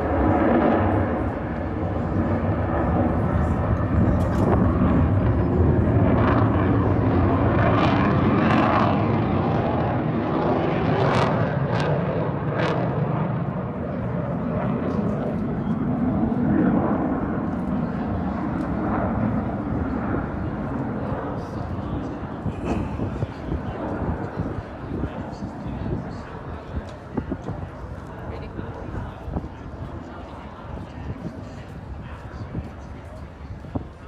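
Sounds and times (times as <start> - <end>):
airplane engine roaring overhead: 0.0 - 34.0.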